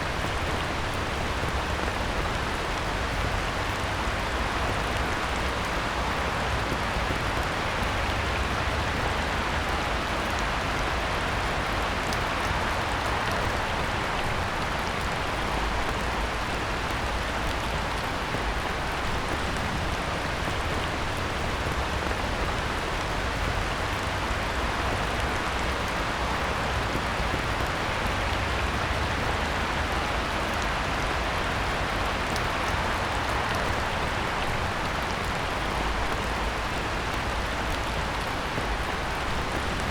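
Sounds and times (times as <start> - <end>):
heavy rain on pond: 0.0 - 39.9.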